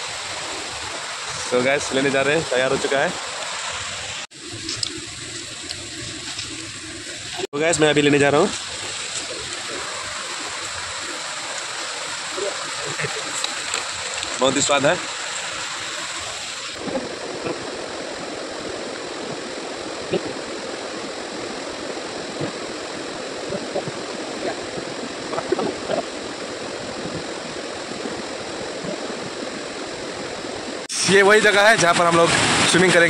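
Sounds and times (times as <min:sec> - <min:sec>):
stream running over rocks: 0:00.0 - 0:33.0.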